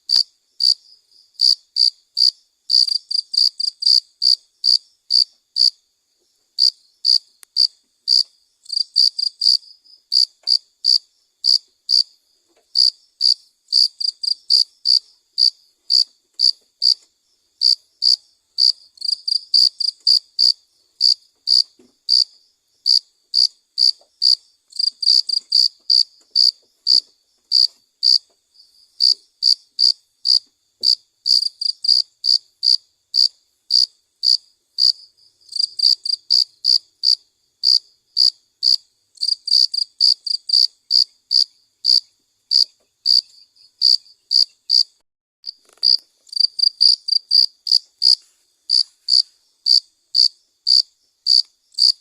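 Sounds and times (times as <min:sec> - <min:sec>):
cricket chirping: 0:00.1 - 0:52.0.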